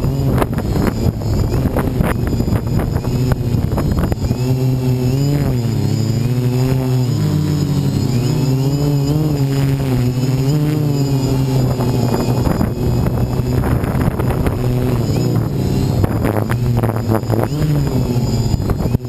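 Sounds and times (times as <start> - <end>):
drone propellers whirring: 0.0 - 19.0
wind buffeting microphone: 0.0 - 19.0.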